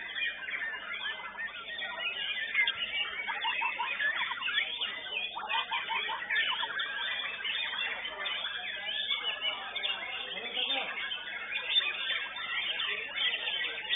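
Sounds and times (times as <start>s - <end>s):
bird singing chirps and whistles: 0.0s - 13.9s.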